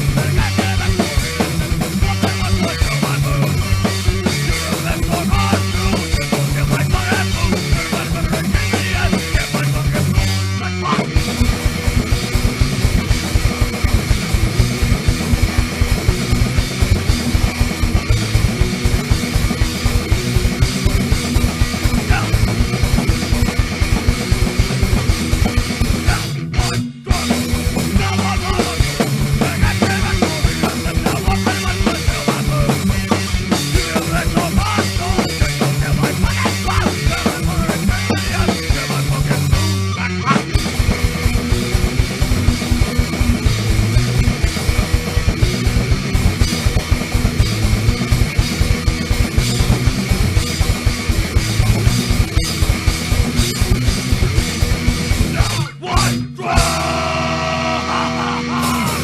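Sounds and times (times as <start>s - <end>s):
punk rock band playing: 0.0s - 59.0s.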